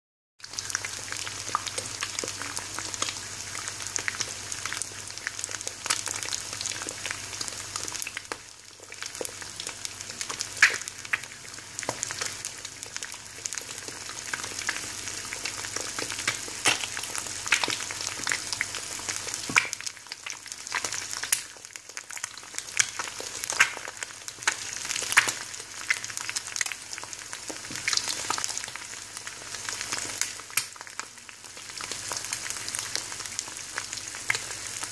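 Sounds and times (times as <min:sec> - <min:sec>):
eggs sizzling in a frying pan: 0:00.4 - 0:34.9.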